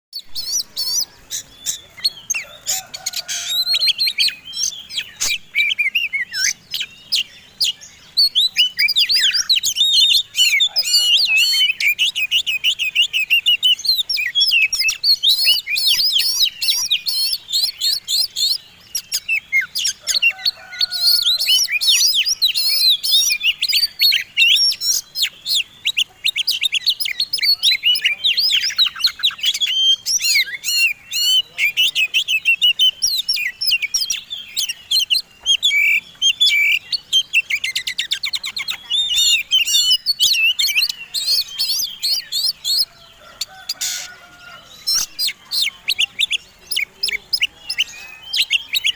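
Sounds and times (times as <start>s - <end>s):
songbird chirps trills and whistles: 0.1s - 48.9s.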